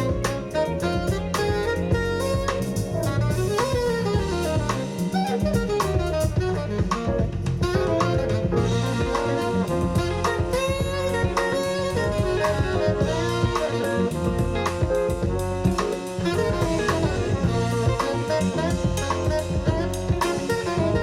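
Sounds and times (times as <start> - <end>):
drum kit: 0.0 - 21.0
saxophone melody: 0.0 - 21.0.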